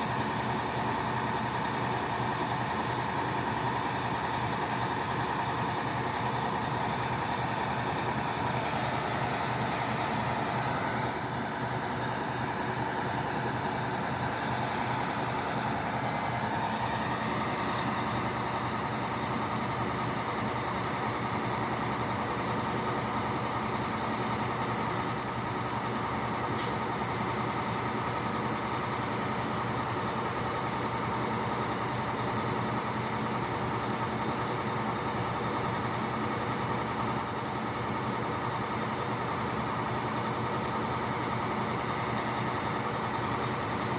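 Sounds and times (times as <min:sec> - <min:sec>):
drilling rig engine running: 0:00.0 - 0:43.9.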